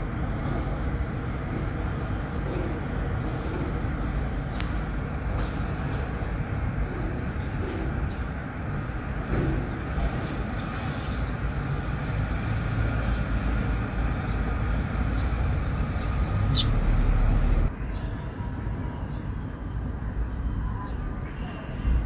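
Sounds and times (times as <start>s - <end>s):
street traffic rumble: 0.0s - 22.0s
sparrows chirping: 0.1s - 18.2s.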